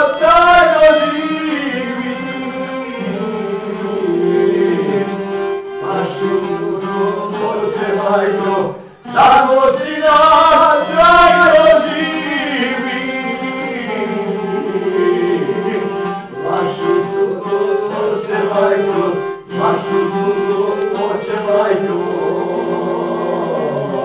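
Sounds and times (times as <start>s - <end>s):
men singing folk song: 0.0s - 24.0s
plucked lute: 0.0s - 24.0s
violin: 0.0s - 24.0s.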